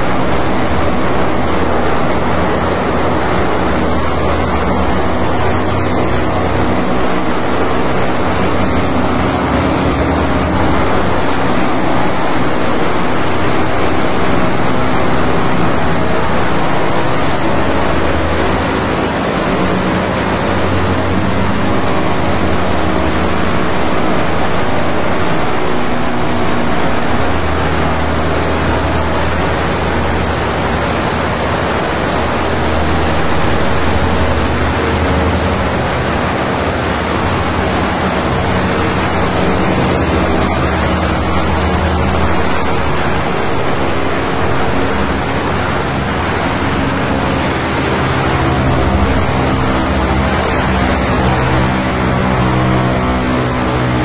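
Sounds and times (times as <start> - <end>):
electronic noise music: 0.0 - 54.0
high sweep: 0.0 - 54.0
low steady drone: 0.0 - 54.0.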